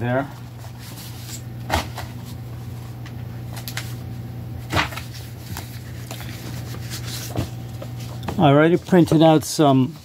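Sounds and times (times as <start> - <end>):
steady low hum: 0.0 - 10.0
papers rustling and knocking: 0.5 - 4.0, 4.6 - 10.0.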